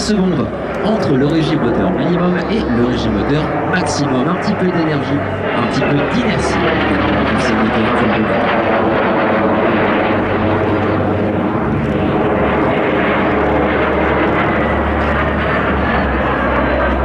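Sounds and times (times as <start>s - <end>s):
jet engines flying by: 0.0s - 17.0s.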